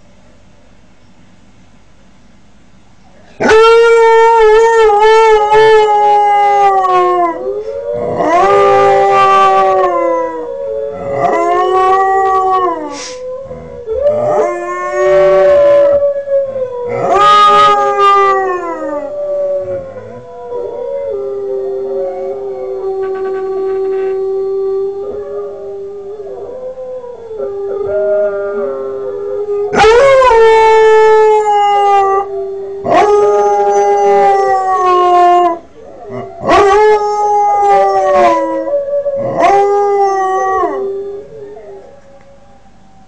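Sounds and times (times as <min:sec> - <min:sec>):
dog howling: 0:03.4 - 0:43.0.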